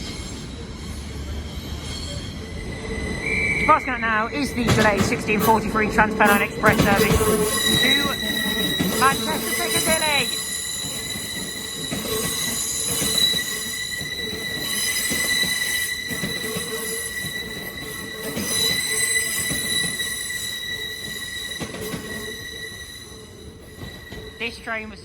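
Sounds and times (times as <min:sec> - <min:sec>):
train rumbling: 0:00.0 - 0:25.0
train wheels squealing on track: 0:00.0 - 0:25.0.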